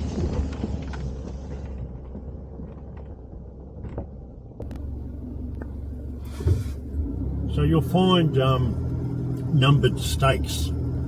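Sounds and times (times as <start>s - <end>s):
vehicle engine and tyres rumbling: 0.0s - 11.0s.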